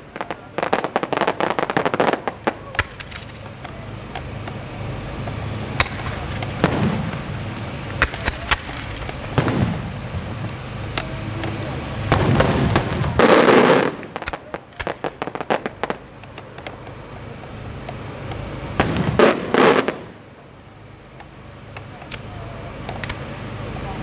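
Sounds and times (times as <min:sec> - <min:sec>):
firework shells bursting: 0:00.0 - 0:20.4
firework crackles: 0:00.0 - 0:24.0.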